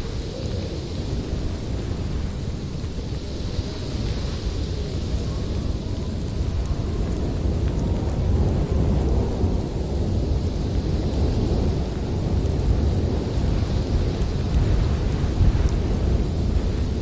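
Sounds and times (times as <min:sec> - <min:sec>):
snowstorm wind blowing: 0:00.0 - 0:17.0.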